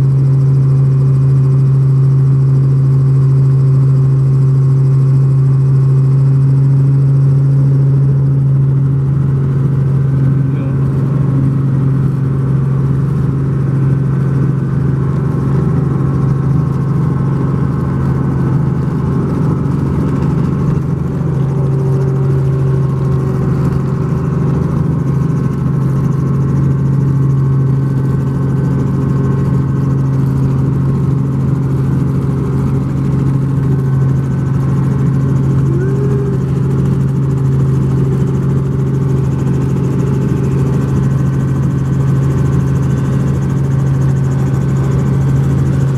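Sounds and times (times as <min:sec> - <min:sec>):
helicopter engine and rotor: 0:00.0 - 0:45.9
low hum: 0:06.5 - 0:45.9.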